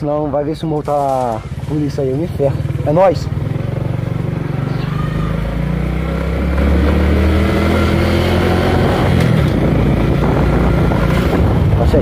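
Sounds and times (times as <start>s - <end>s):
scooter engine pulling away: 1.4s - 11.8s.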